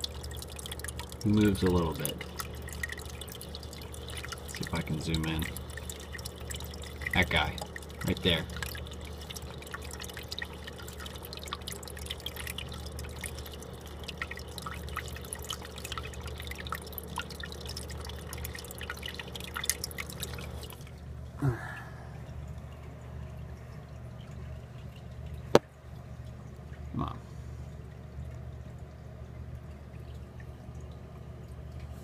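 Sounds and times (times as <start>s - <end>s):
low steady hum: 0.0s - 32.0s
water drips and trickles: 0.0s - 32.0s.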